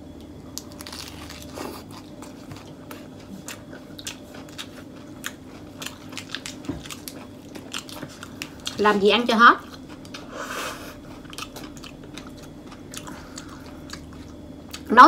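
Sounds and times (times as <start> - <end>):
crisp chewing crunches: 0.5 - 8.9, 10.9 - 14.9.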